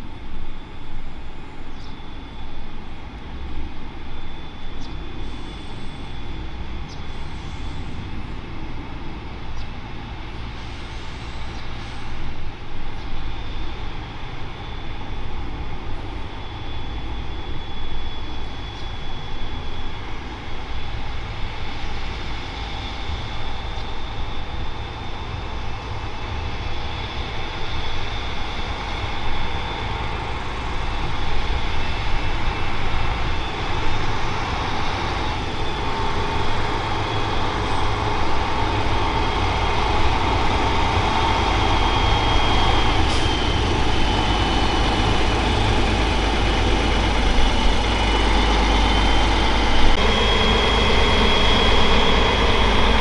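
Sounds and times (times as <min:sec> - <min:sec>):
tram engine whining and rumbling: 0:00.0 - 0:53.0.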